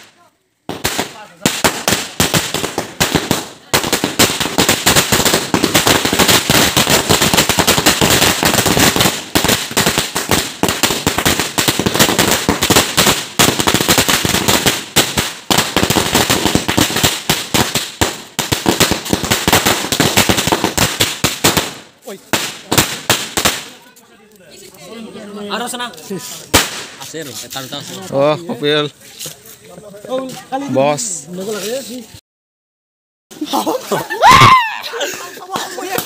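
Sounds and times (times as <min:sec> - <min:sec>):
firecrackers bursting: 0:00.0 - 0:24.7, 0:25.3 - 0:29.5, 0:33.4 - 0:36.0.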